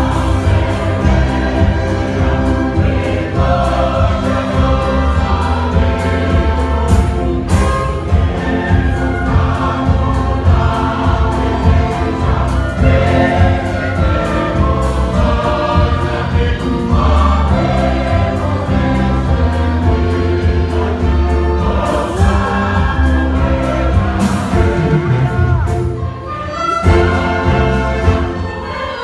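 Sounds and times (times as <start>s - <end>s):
choir singing a hymn with band: 0.0s - 29.0s.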